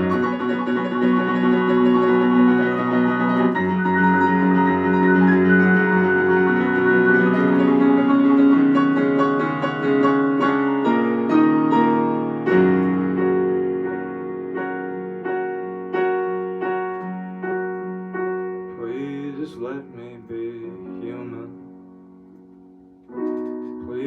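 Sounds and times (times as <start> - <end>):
piano chords: 0.0 - 24.0.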